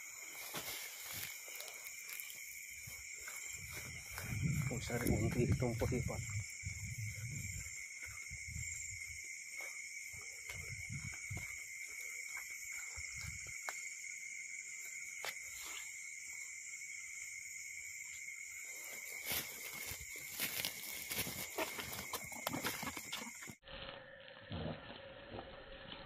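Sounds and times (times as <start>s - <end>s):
crickets and night insects: 0.0s - 26.0s.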